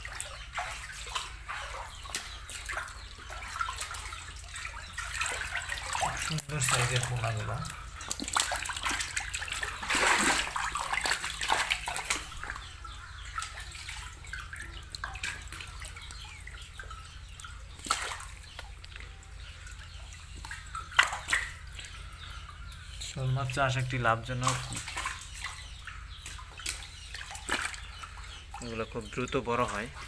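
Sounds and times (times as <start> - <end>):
water splashing in a tank: 0.0 - 30.0.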